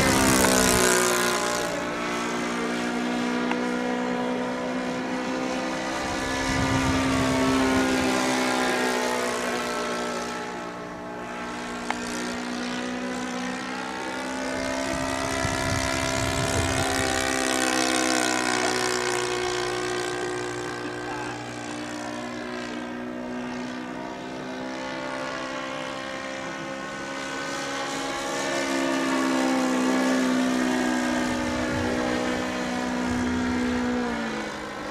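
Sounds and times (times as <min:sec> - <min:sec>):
model plane engine droning: 0:00.0 - 0:34.9.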